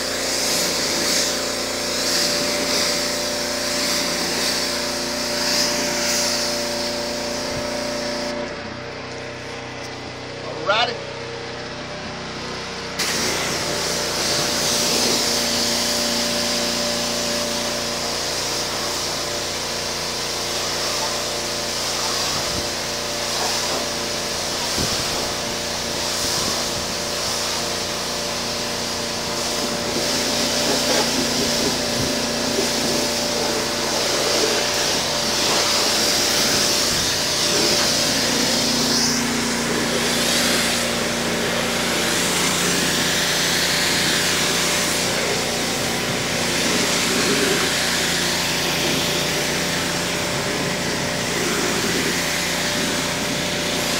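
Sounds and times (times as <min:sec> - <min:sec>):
pressure washer machine hum: 0:00.0 - 0:53.9
water spray blasting concrete: 0:00.0 - 0:53.9.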